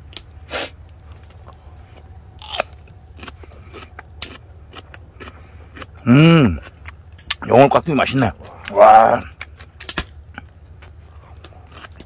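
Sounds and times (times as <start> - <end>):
steady low hum: 0.0 - 12.0
man chewing food: 0.6 - 7.5, 8.4 - 12.0.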